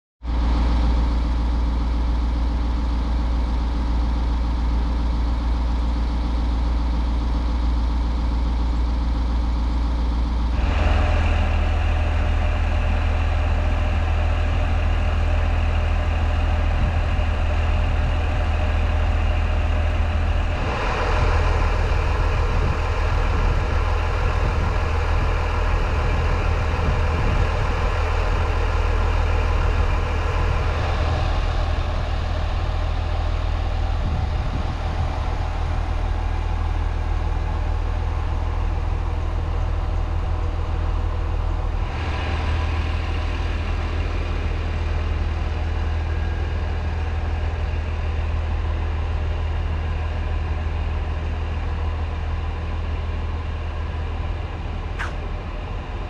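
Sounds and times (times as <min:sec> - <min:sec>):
vehicle engine idling: 0:00.2 - 0:56.0.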